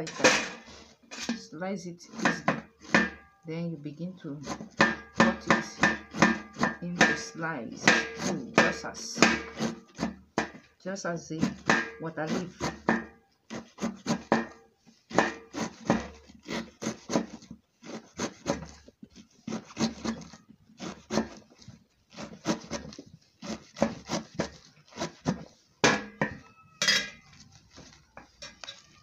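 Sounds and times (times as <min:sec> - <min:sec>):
knife chopping on metal tray: 0:02.1 - 0:03.3, 0:04.4 - 0:10.7, 0:11.4 - 0:29.0.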